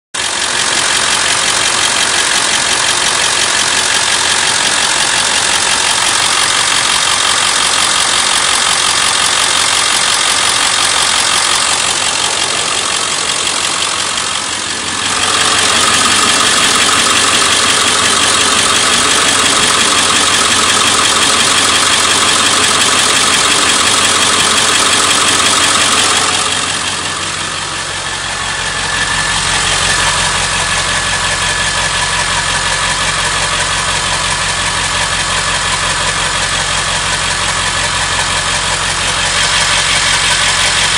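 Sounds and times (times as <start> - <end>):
engine ticking: 0.1 - 40.9
diesel engine idling: 0.2 - 40.9.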